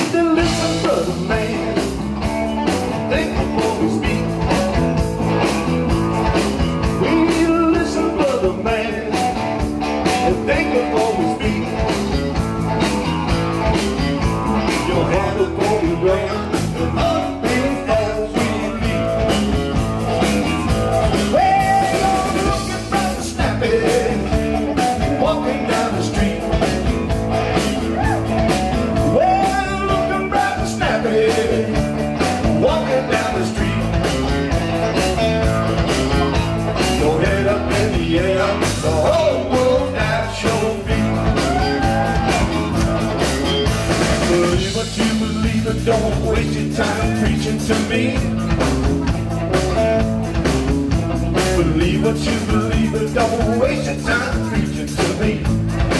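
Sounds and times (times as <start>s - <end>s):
rock and roll band playing: 0.0s - 55.9s.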